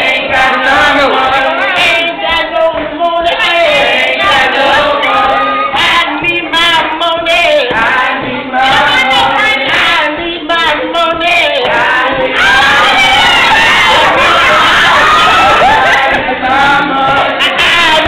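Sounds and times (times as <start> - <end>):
group singing without instruments: 0.0 - 18.0.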